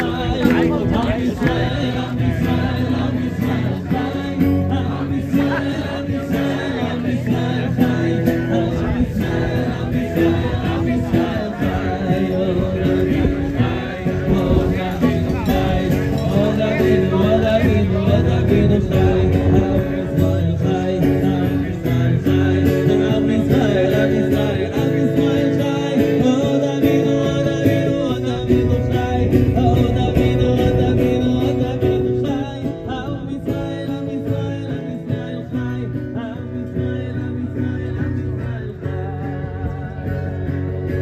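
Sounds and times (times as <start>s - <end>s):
acoustic guitar strumming: 0.0s - 41.0s
voices singing: 0.0s - 41.0s.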